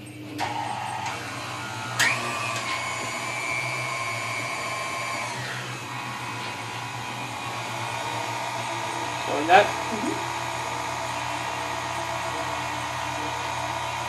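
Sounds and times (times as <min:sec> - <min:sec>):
pasta roller motor whining: 0:00.0 - 0:14.0.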